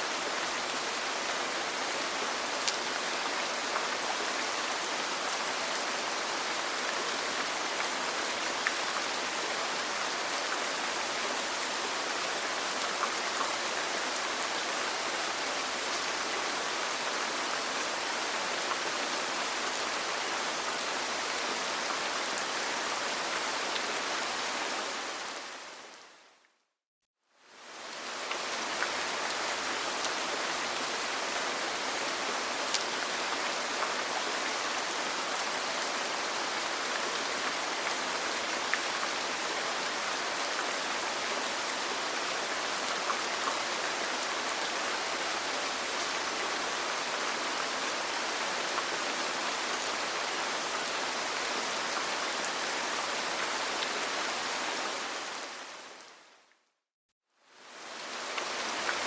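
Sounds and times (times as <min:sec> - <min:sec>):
rain falling on a roof: 0:00.0 - 0:26.4, 0:27.4 - 0:56.5, 0:57.4 - 0:59.0.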